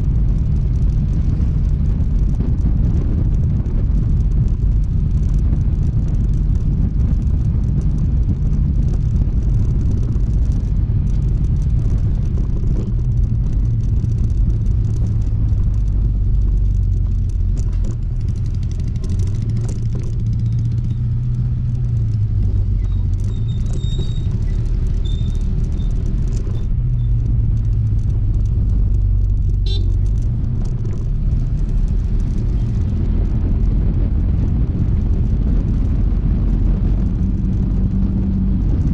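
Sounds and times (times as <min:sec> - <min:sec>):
scooter engine running: 0:00.0 - 0:33.6
wind rumble on microphone: 0:00.0 - 0:38.9.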